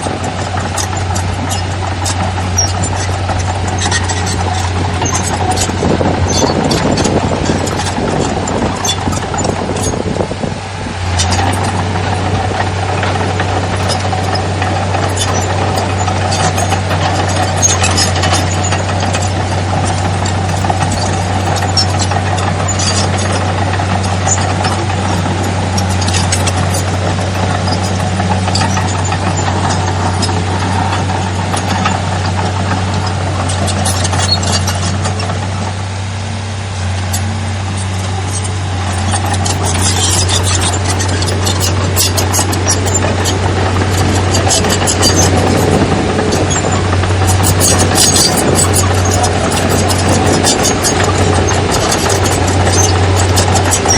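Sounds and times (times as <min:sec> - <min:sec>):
metallic clanks and clicks: 0:00.0 - 0:10.2, 0:11.1 - 0:35.5, 0:37.0 - 0:53.9
diesel machinery engine hum: 0:00.0 - 0:53.9.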